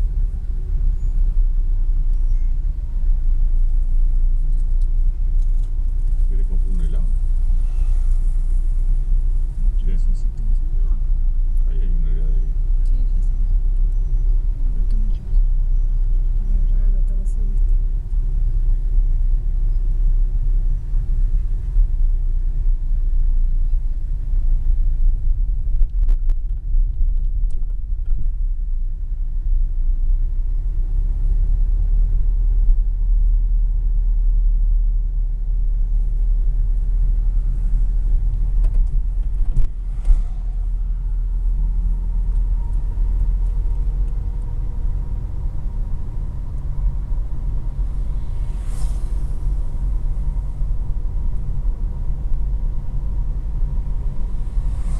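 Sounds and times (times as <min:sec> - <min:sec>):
car driving rumble: 0:00.0 - 0:54.9.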